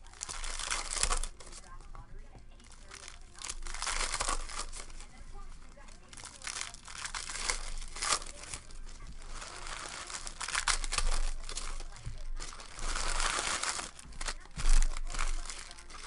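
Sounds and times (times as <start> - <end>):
foil wrappers crinkling and tearing: 0.0 - 16.0.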